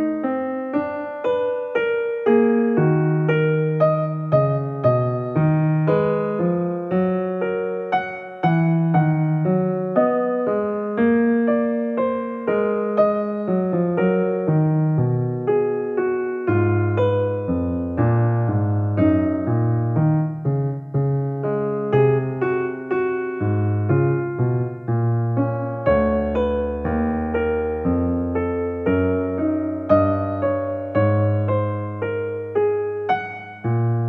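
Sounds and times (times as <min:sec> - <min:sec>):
piano melody with chords: 0:00.0 - 0:34.0.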